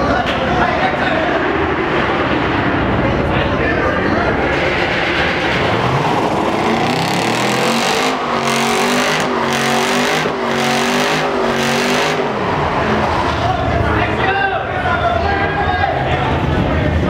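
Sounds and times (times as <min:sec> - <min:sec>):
car engine at high revs: 0:00.2 - 0:14.1.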